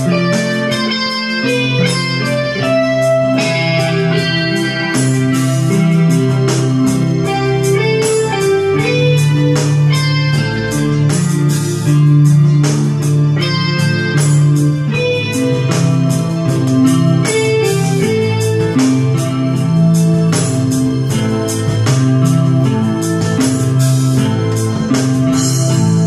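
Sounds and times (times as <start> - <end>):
electronic keyboard music: 0.0 - 26.0.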